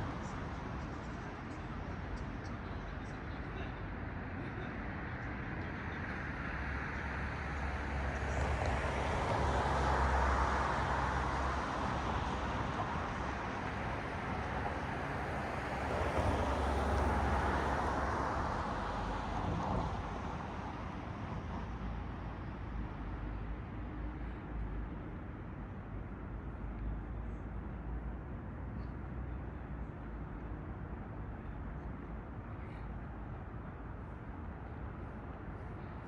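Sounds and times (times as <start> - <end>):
cars passing on road: 3.8 - 36.0.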